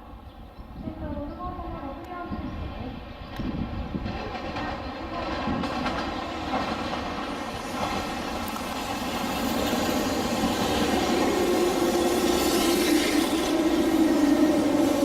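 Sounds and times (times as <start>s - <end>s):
electric train hum and rushing: 0.0s - 15.0s.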